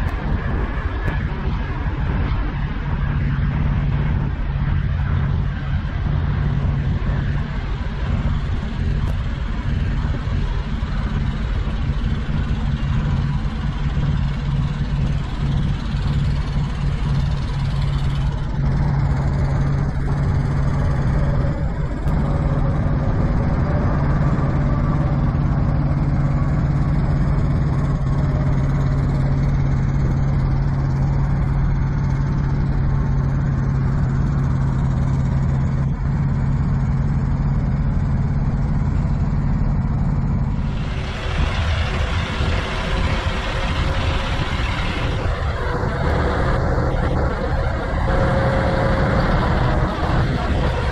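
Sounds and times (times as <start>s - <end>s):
truck diesel engine idling: 2.8s - 50.9s.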